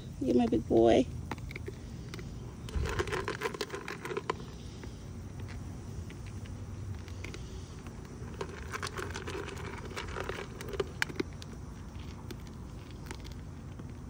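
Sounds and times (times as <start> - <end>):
deer chewing clicks: 0.5 - 14.0.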